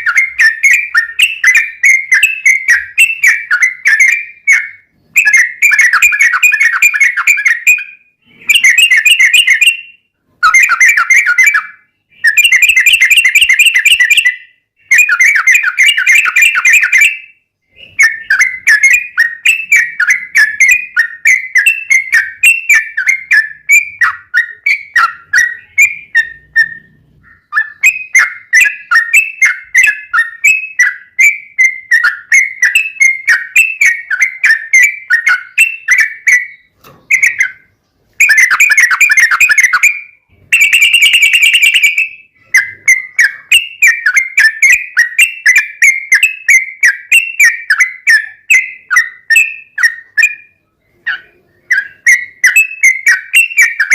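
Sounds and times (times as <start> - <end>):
bird singing rapid notes: 0.0 - 53.9.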